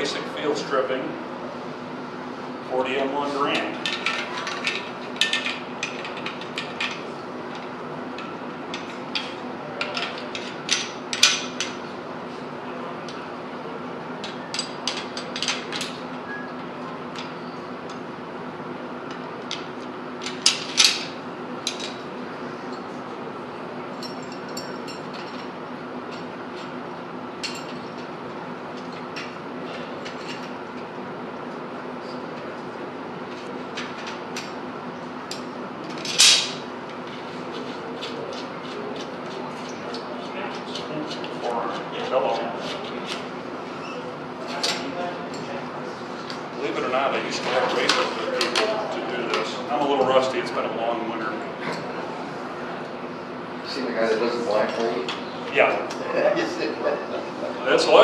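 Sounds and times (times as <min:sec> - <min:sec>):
room hum: 0:00.0 - 0:58.0.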